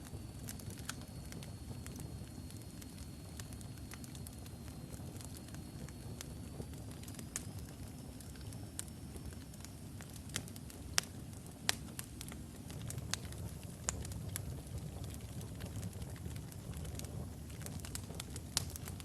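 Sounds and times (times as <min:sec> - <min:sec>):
logs burning in fireplace: 0:00.0 - 0:19.0.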